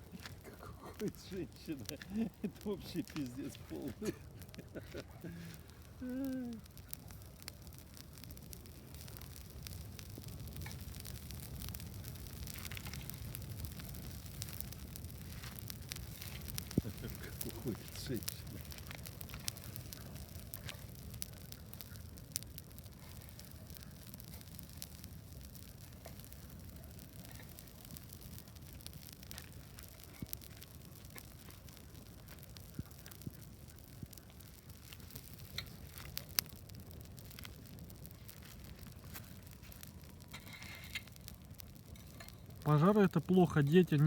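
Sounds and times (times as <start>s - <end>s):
bonfire crackling and popping: 0.0s - 44.0s
low fire rumble: 0.0s - 44.0s.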